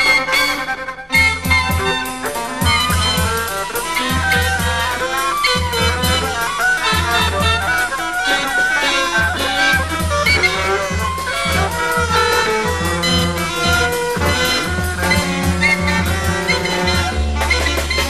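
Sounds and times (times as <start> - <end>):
drums: 0.0 - 18.0
saxophone: 0.0 - 18.0
trumpet: 0.0 - 18.0
bass line: 1.2 - 18.0.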